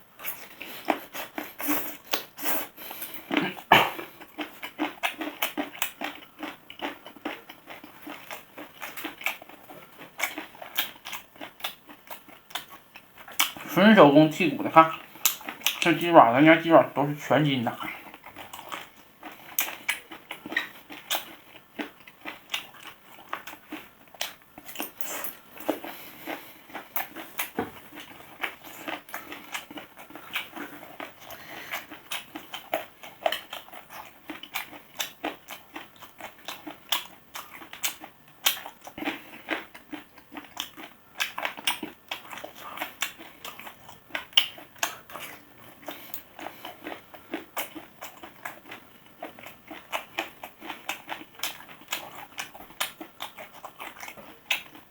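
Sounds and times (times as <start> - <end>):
person chewing chicken feet: 0.1 - 54.9.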